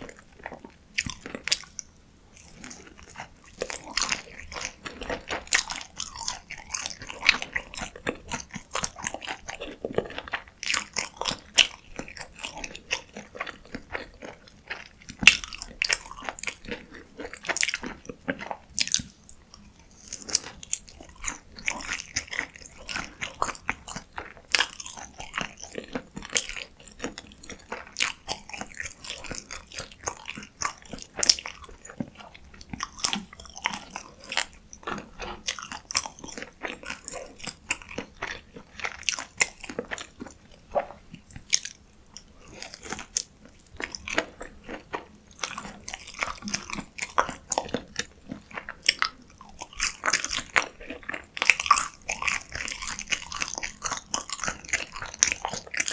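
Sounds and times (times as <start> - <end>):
crunchy bites and chewing: 0.0 - 55.9.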